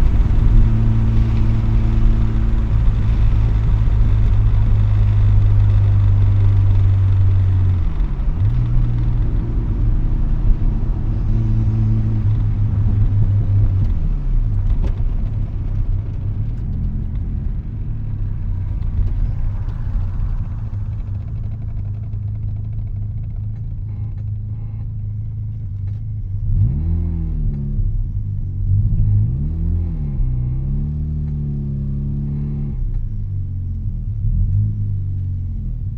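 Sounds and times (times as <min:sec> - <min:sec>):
car engine droning: 0:00.0 - 0:35.9.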